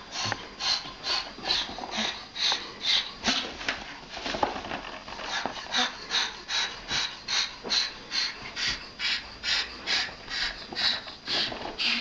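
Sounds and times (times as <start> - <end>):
cockatoo hissing: 0.0 - 3.6, 5.3 - 12.0.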